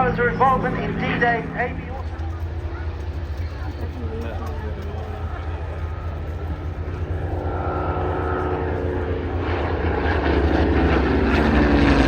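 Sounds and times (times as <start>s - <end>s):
propeller aircraft engine: 0.0s - 12.0s.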